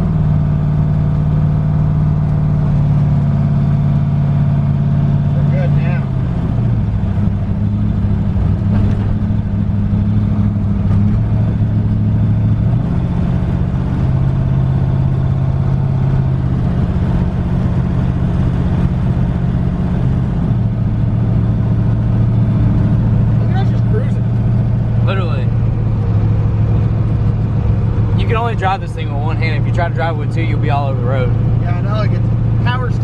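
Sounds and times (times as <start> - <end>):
car engine exhaust running: 0.0 - 33.0.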